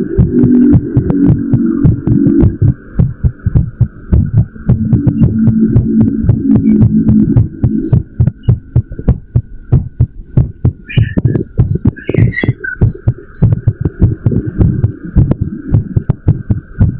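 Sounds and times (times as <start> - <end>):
fast heartbeat thumps: 0.0 - 16.9.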